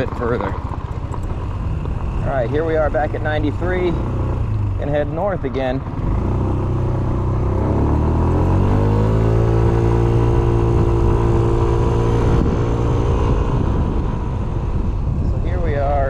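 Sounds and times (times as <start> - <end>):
scooter engine pulling away: 0.0 - 5.2, 5.8 - 15.2.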